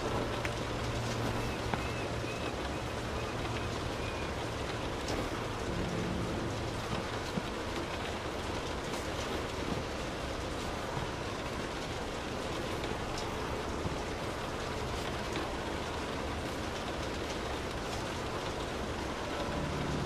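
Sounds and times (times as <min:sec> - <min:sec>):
rain drumming on car roof: 0:00.0 - 0:20.0.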